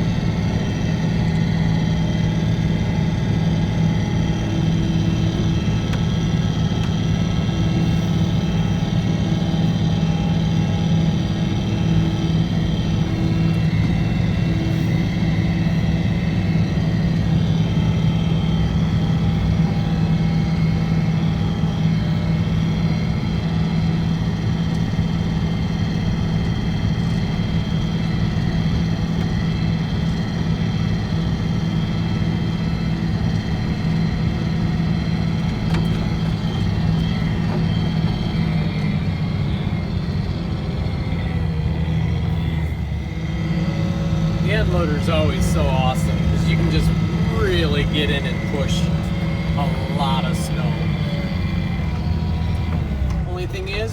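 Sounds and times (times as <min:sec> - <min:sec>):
diesel loader engine running: 0:00.0 - 0:53.9.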